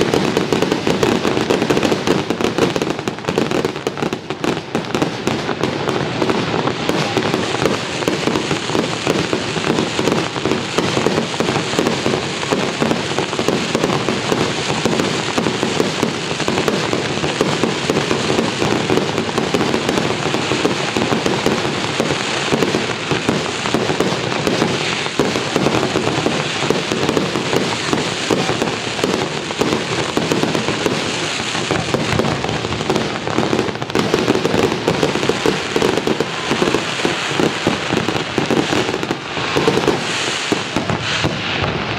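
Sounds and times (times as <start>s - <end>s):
fireworks crackling: 0.0s - 41.9s.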